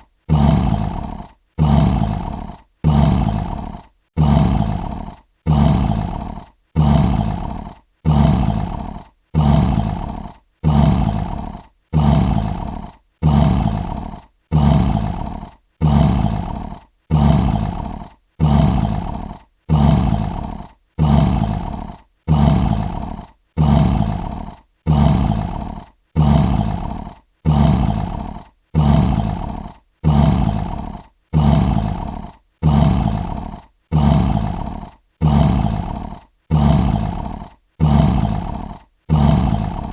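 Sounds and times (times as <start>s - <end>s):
lion roar: 0.3s - 39.9s.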